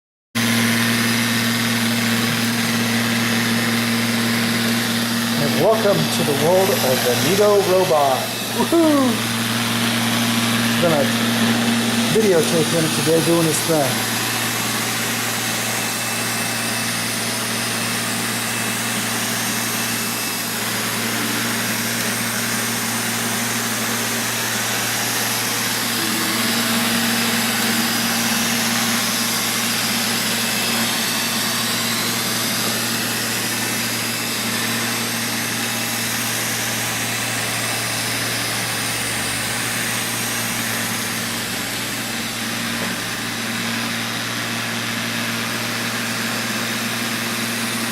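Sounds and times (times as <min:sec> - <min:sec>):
robot vacuum cleaner whirring: 0:00.4 - 0:47.9.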